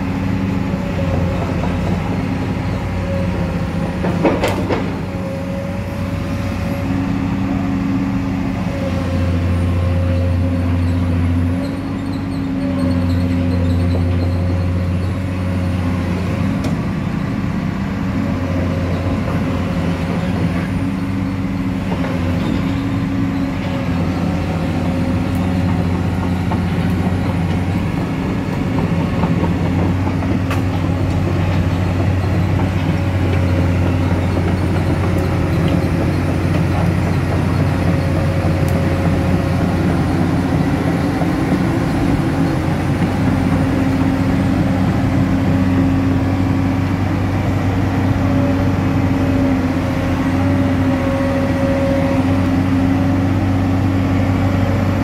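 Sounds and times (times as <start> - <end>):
excavator diesel engine idling: 0.0 - 55.0.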